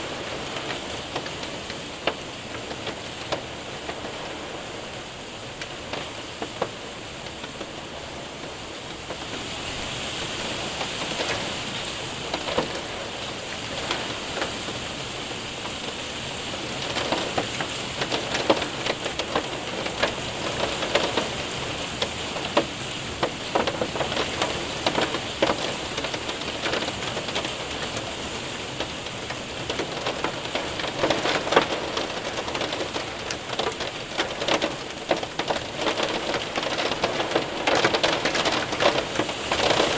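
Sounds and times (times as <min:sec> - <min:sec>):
hailstones ticking: 0:00.0 - 0:39.9
rain on window and roof: 0:00.0 - 0:39.9.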